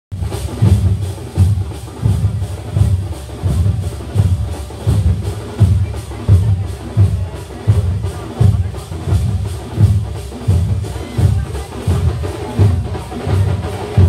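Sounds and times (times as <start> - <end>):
percussion troupe drumming: 0.1 - 14.0.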